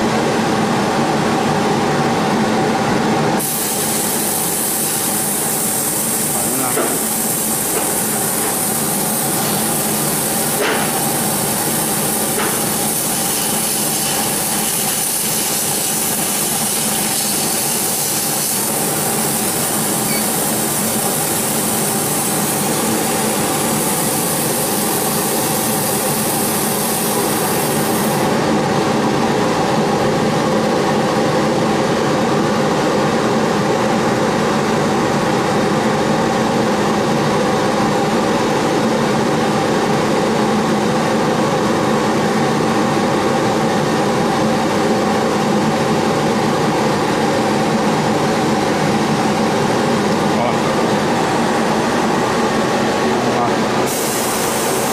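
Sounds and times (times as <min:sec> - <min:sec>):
laser cutter fans humming: 0:00.0 - 0:54.9.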